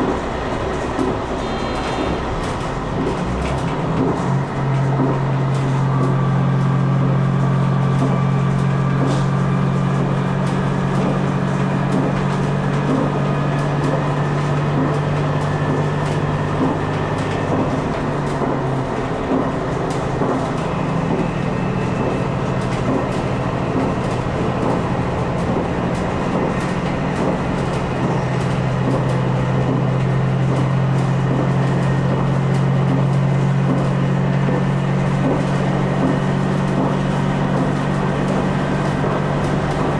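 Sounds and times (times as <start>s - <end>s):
train engine drone: 0.0s - 39.9s
wheel clicks on track: 0.0s - 39.9s.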